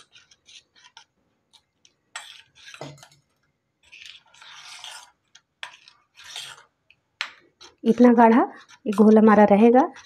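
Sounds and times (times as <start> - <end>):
wet scraping of batter: 0.0 - 10.0.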